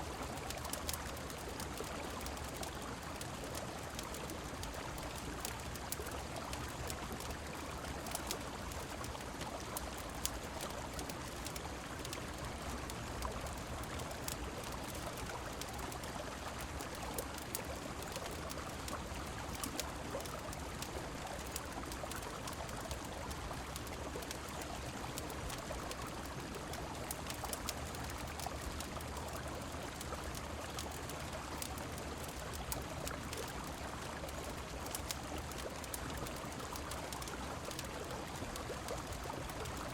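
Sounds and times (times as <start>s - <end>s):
rain: 0.0s - 39.9s
sharp ticks and pops: 0.2s - 39.9s.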